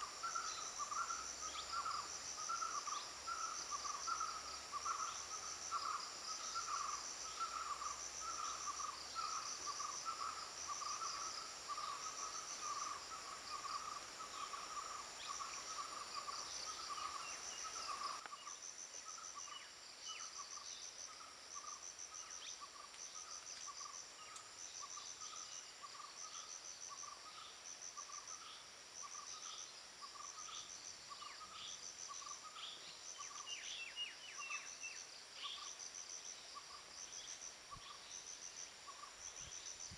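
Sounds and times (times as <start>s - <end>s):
insects trilling: 0.0s - 39.9s
low insect call: 0.0s - 39.9s.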